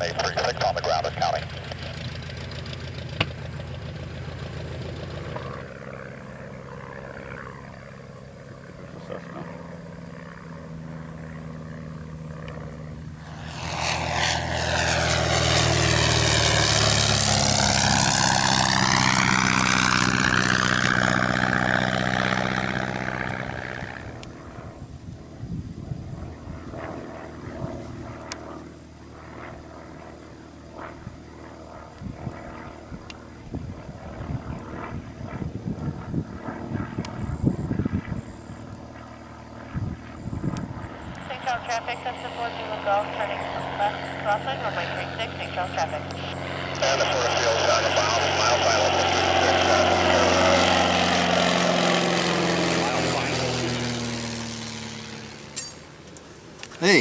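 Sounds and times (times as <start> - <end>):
hollow rushing of plane passing: 0.0 - 30.2, 30.8 - 57.0
light aircraft engine and propeller: 0.0 - 57.0.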